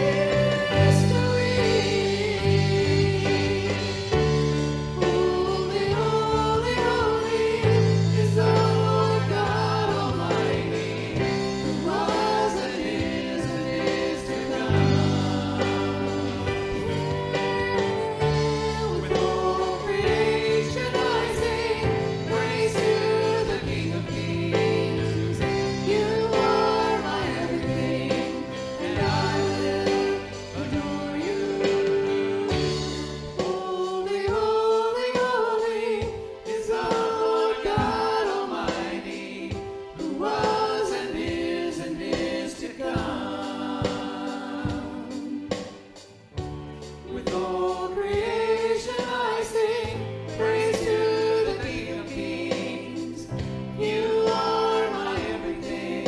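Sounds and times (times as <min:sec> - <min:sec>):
choir singing worship song: 0:00.0 - 0:56.0
instrumental accompaniment: 0:00.0 - 0:56.0.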